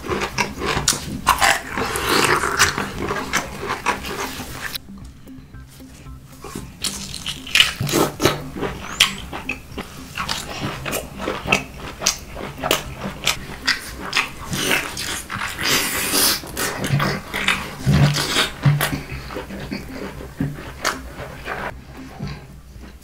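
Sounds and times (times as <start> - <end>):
hissing slurp: 0.0 - 4.8, 6.4 - 23.0
person chewing food noisily: 0.0 - 23.0.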